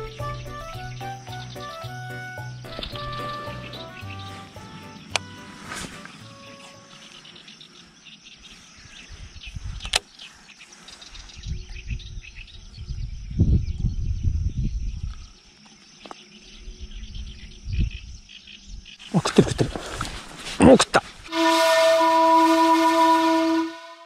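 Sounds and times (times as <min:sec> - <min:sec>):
faint birdsong: 0:00.0 - 0:21.3.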